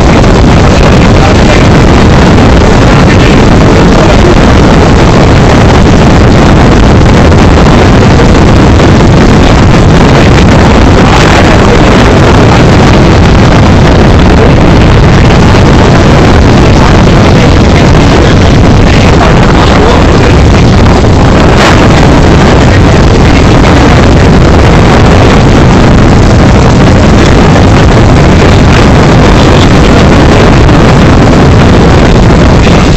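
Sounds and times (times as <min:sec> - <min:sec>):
distorted rumbling noise: 0:00.0 - 0:32.9.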